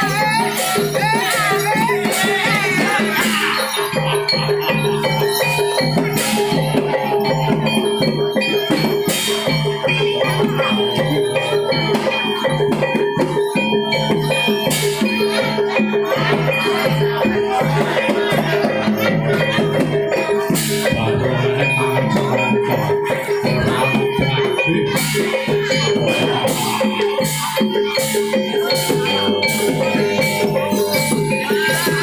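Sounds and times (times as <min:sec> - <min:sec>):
drums: 0:00.0 - 0:32.0
metallophones and gongs: 0:00.0 - 0:32.0.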